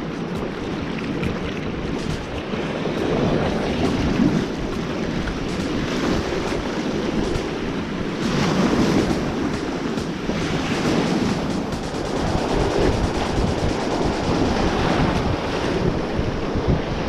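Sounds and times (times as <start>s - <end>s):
ocean surf washing ashore: 0.0s - 17.0s
wind buffeting microphone: 0.0s - 17.0s.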